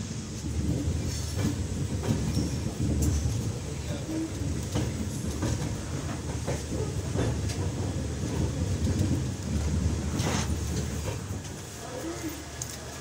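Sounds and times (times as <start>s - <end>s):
train rumbling on track: 0.0s - 13.0s
train wheels clicking on rail joints: 0.0s - 13.0s.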